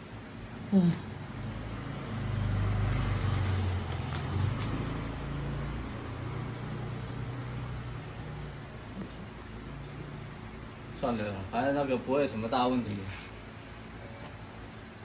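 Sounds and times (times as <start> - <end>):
vehicle engine running: 0.6 - 15.0.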